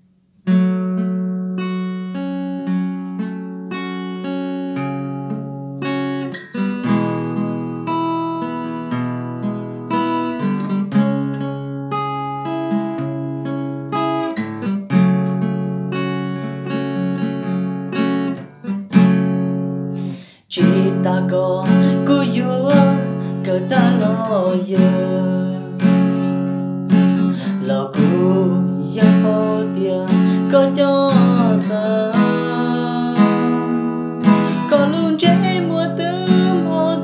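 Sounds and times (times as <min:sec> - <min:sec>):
acoustic guitar strumming: 0:00.4 - 0:37.0.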